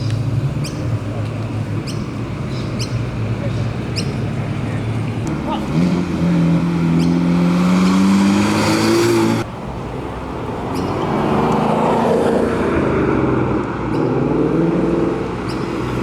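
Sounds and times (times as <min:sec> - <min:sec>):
car engines driving past: 0:00.0 - 0:16.0.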